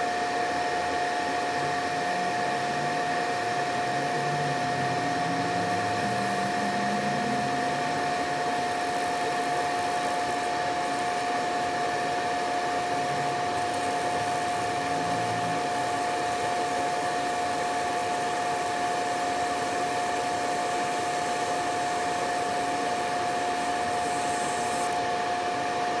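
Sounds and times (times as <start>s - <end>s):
constant high whine: 0.0s - 26.0s
laser machine fan-like rush: 0.0s - 26.0s.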